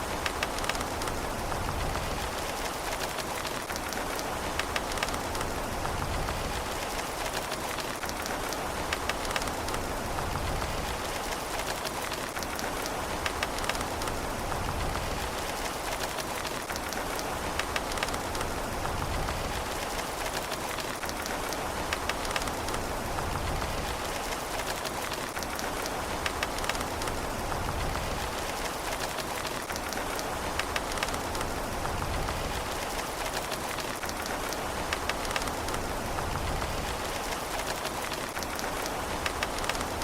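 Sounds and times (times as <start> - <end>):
rain hiss: 0.0 - 40.0
raindrops ticking on hard surface: 0.0 - 40.0.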